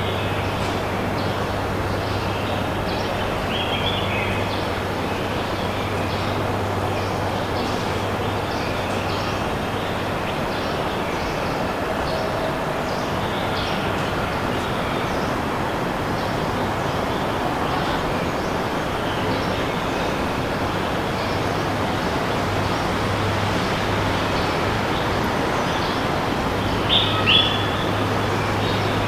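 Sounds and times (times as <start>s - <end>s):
distant traffic rumble: 0.0s - 29.0s.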